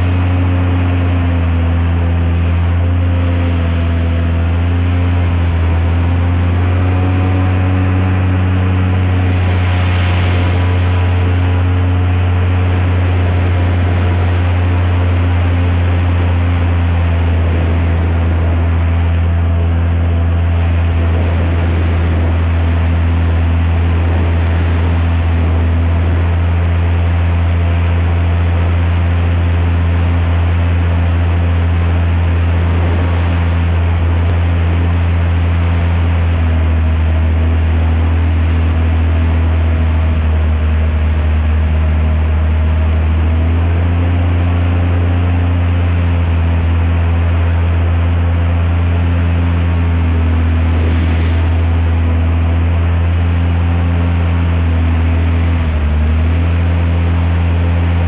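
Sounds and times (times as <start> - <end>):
airboat engine and propeller drone: 0.0 - 58.0.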